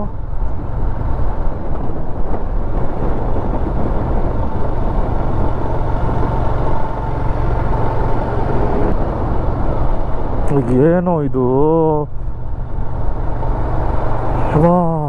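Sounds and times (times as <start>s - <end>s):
wind rushing over microphone: 0.0s - 14.7s
motorcycle engine drone: 0.0s - 15.0s.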